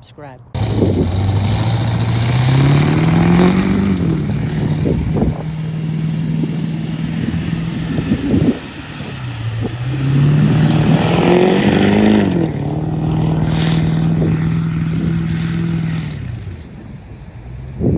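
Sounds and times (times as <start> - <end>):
pickup truck engine accelerating: 0.6 - 17.9.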